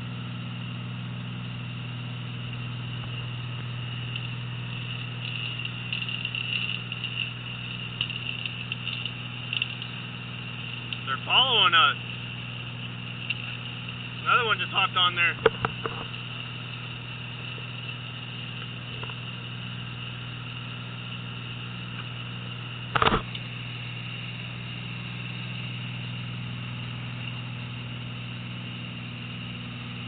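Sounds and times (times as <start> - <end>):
boat engine droning: 0.0 - 30.0
faint high whine: 0.0 - 30.0.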